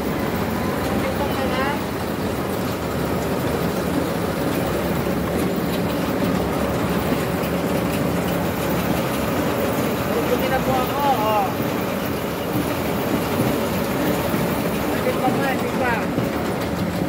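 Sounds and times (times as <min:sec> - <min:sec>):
conveyor belts and motors humming: 0:00.0 - 0:17.0.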